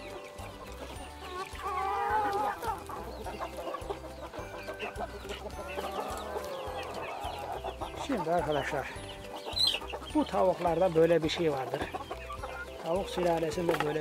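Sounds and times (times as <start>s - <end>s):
chickens clucking and calling: 0.0s - 14.0s
high chick peeps: 0.0s - 14.0s.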